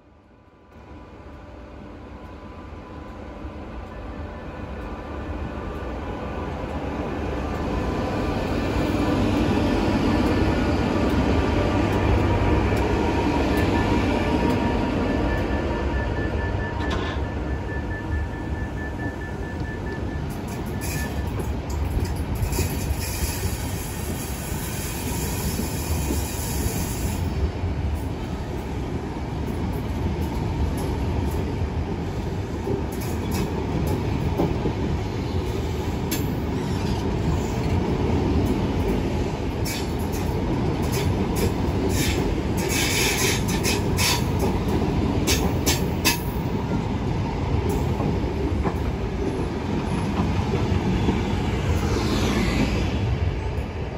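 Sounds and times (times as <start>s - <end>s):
train wheels rumbling on track: 0.0s - 53.9s.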